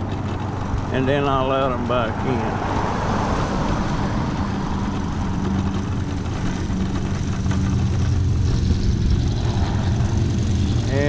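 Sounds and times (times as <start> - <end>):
electric scooter motor drone: 0.0 - 11.0
road noise: 0.0 - 11.0.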